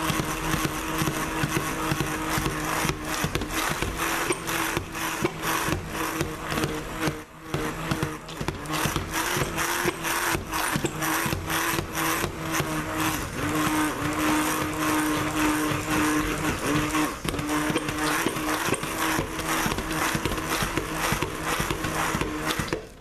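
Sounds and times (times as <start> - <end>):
stick blender motor whining: 0.0 - 23.0.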